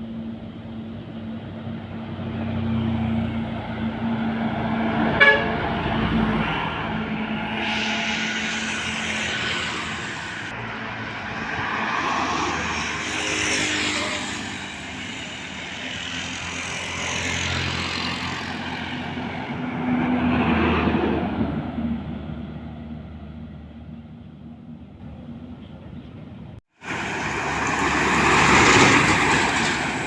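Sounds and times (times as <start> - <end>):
heavy trucks passing: 0.0 - 30.0.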